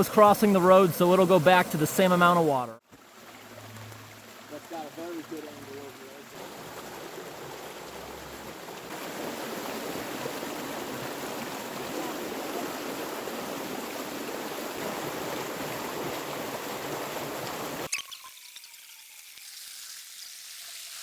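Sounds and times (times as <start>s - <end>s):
water rushing from a culvert: 0.0s - 21.0s.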